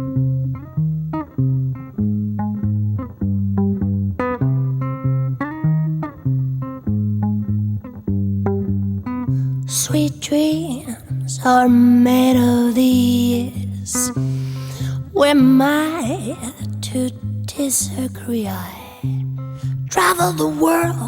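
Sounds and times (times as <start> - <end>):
plucked bass guitar riff: 0.0 - 21.0.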